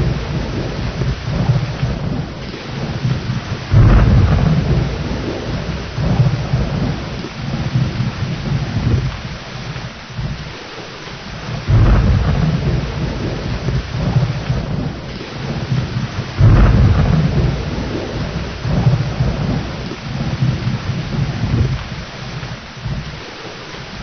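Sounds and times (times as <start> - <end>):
rolling thunder: 0.0 - 10.6, 11.3 - 23.3
steady rain: 0.0 - 24.0.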